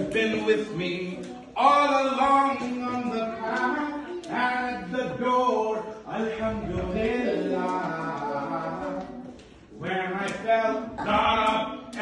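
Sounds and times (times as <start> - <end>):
man singing chant-like song: 0.0 - 12.0.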